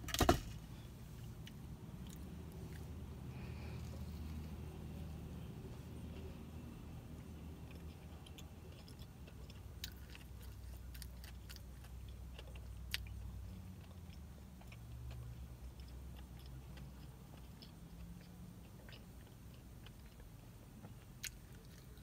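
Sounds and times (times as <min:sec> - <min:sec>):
low steady hum: 0:00.0 - 0:22.0
person chewing with mouth closed: 0:01.2 - 0:05.1, 0:07.2 - 0:22.0.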